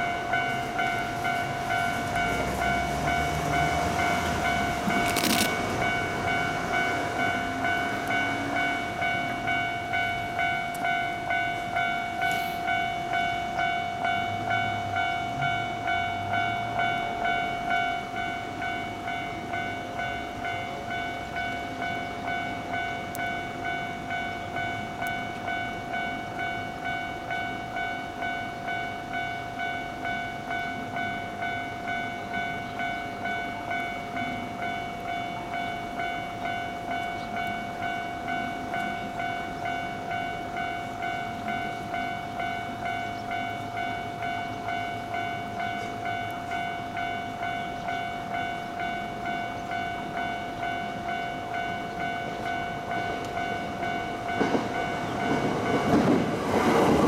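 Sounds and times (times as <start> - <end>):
level crossing warning bell: 0.0 - 57.0.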